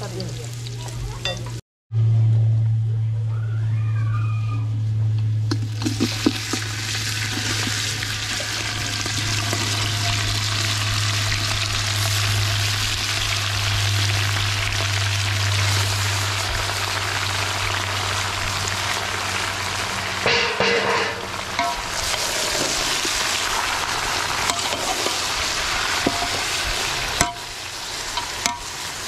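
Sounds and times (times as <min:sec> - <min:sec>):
oil sizzling: 0:00.0 - 0:01.6, 0:05.5 - 0:29.0
low hum: 0:01.4 - 0:29.0.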